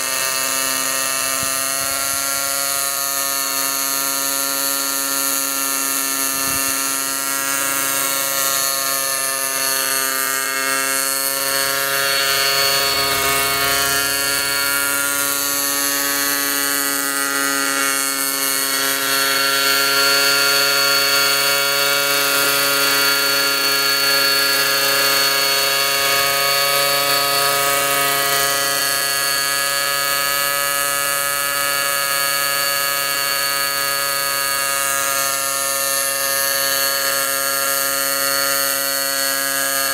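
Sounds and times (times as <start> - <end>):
model helicopter engine buzzing: 0.0 - 39.9.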